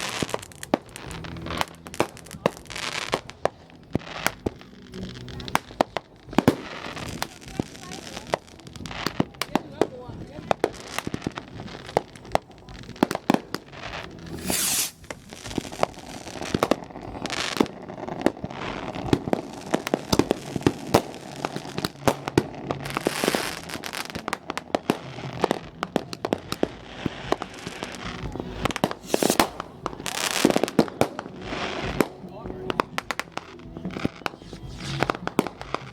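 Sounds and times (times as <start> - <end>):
fireworks crackling and banging: 0.0 - 35.9
hissing firework bursts: 0.0 - 35.9.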